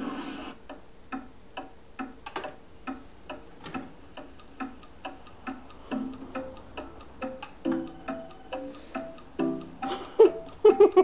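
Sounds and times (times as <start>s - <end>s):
ticking plucked music: 0.7s - 11.0s.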